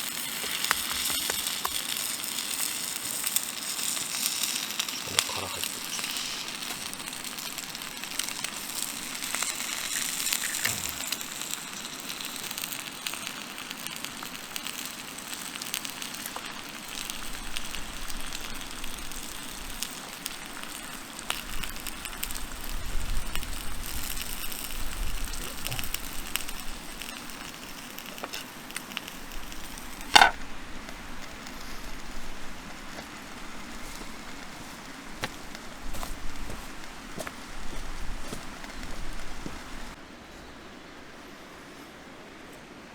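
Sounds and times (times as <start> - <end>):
campfire crackling and sizzling: 0.0 - 42.9.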